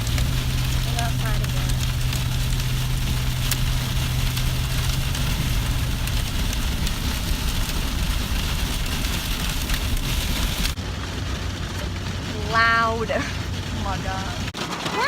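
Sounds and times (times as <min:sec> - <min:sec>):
heavy rain pelting a car: 0:00.0 - 0:15.0.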